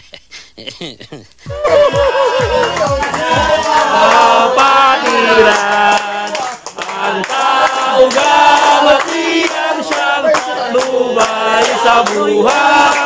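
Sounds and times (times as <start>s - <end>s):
hands clapping: 1.6s - 4.4s, 5.0s - 13.0s
men chanting together: 2.5s - 13.0s.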